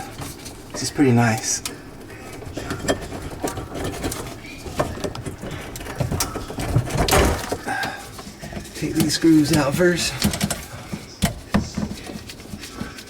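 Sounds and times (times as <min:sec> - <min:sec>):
tools clicking and knocking: 0:00.0 - 0:13.0.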